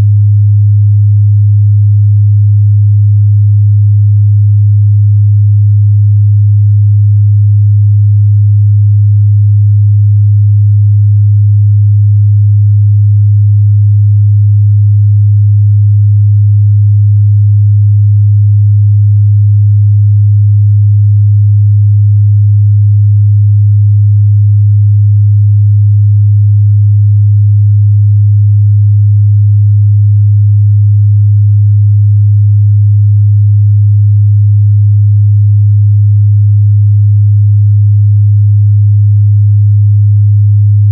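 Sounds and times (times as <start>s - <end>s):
low sine-wave test tone: 0.0s - 40.9s.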